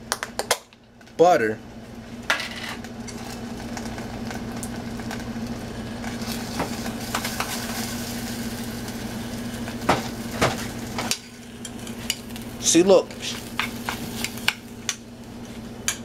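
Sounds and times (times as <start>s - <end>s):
pot cooking on stovetop hum: 0.0s - 16.0s.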